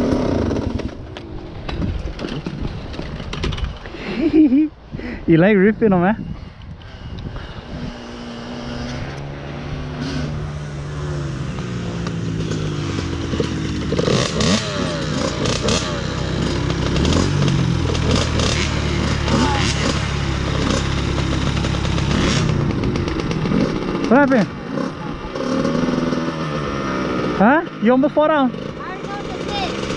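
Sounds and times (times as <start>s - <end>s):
dirt bike engines revving: 0.0s - 29.9s.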